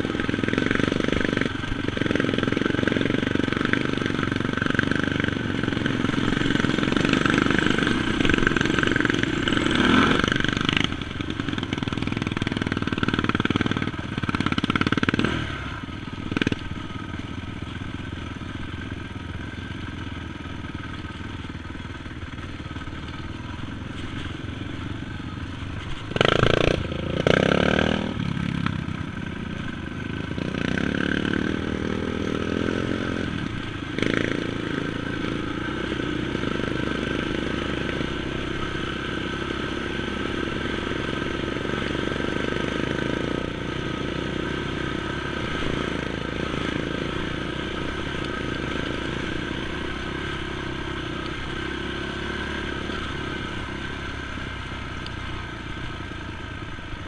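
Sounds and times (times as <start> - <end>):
atv engine with throttle surges: 0.0 - 57.0.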